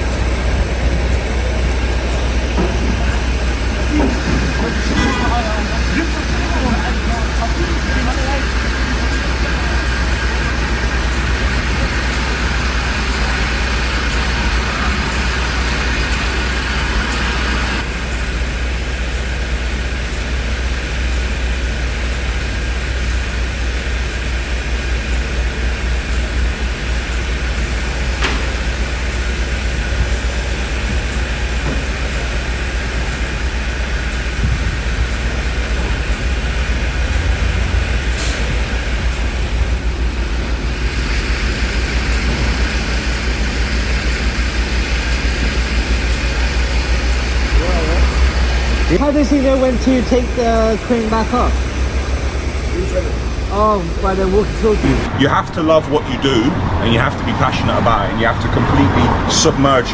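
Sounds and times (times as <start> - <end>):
high hiss: 0.0 - 18.2, 25.2 - 55.1
heavy engine rumbling: 0.0 - 59.9
street and site noise: 0.0 - 59.9.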